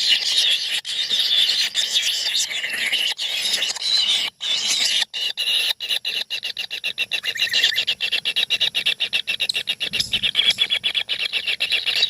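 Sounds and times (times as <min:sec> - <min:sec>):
nestling birds calling: 0:00.0 - 0:12.0.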